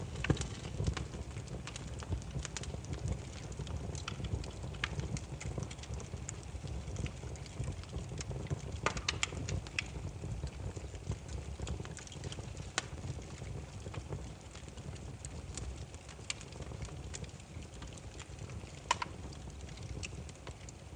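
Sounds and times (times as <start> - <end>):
low rumble of burning logs: 0.0 - 20.9
wood fire crackling and popping: 0.0 - 20.9.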